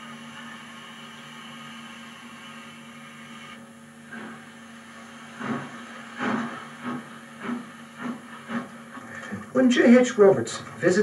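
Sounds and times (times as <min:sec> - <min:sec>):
steady hum and hiss: 0:00.0 - 0:11.0
steam locomotive chuffing: 0:00.0 - 0:11.0.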